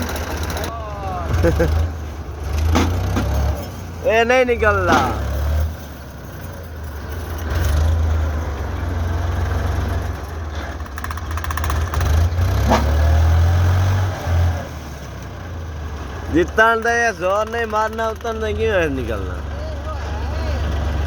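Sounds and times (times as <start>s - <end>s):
tractor engine straining: 0.0s - 21.0s.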